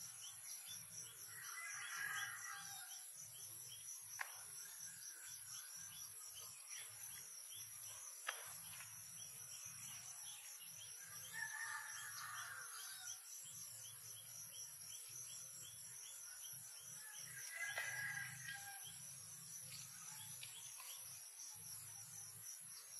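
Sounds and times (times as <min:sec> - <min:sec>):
crickets chirping chorus: 0:00.0 - 0:22.9.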